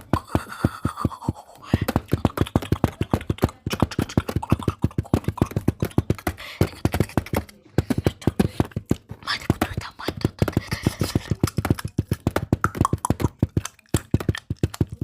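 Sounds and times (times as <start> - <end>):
fingernail tapping on microphone: 0.0 - 15.0.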